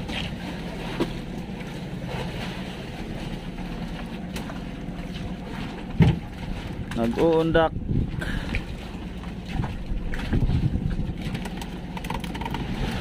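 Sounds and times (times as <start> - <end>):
boat engine humming: 0.0 - 13.0
wind and water noise: 0.0 - 13.0.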